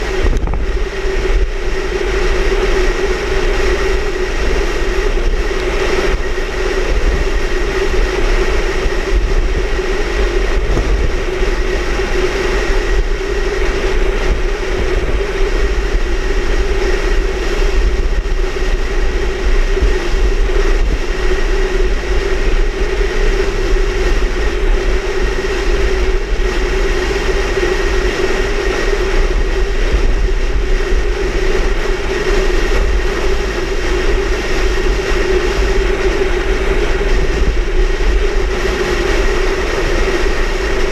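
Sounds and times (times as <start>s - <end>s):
constant hum: 0.0s - 40.9s
wind rushing on microphone: 0.0s - 40.9s.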